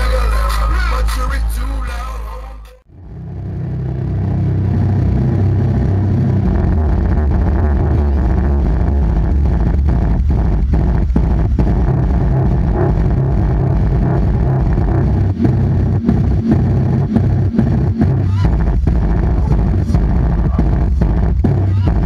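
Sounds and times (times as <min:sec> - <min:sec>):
loud deep bass music: 0:00.0 - 0:22.0.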